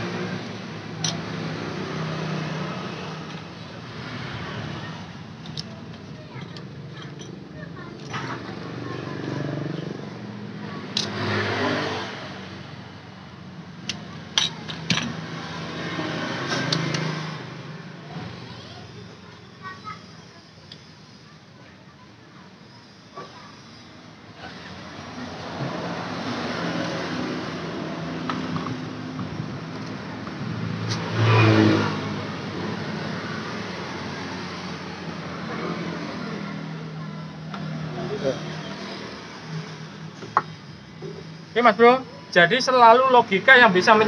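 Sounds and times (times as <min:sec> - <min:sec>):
engine running and revving: 0:00.0 - 0:07.4, 0:08.0 - 0:19.1, 0:24.4 - 0:41.6.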